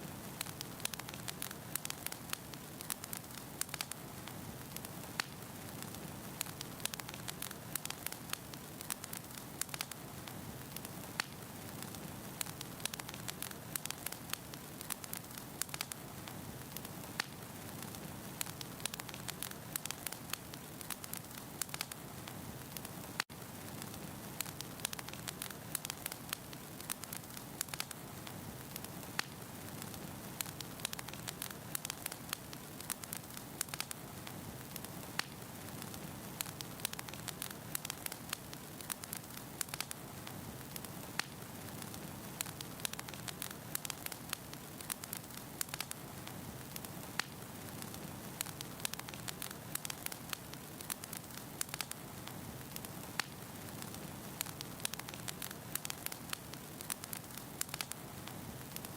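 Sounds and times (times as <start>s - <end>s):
firewood crackling and popping: 0.0s - 58.9s
flames hissing and rumbling: 0.0s - 58.9s.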